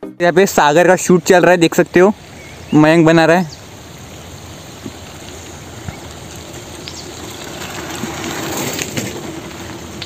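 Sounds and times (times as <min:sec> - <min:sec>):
bicycle tyres hissing on road: 0:00.6 - 0:10.0.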